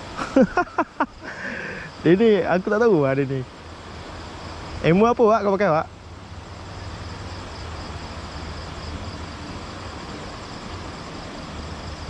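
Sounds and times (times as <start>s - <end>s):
even hiss: 0.0s - 12.0s.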